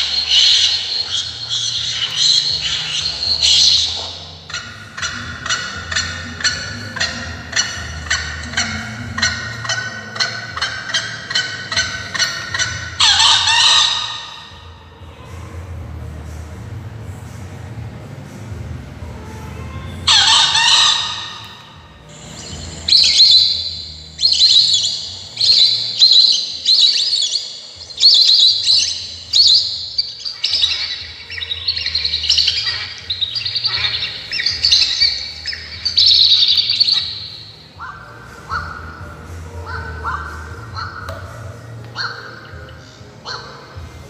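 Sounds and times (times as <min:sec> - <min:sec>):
recorded birdsong through speaker: 0:00.0 - 0:44.0.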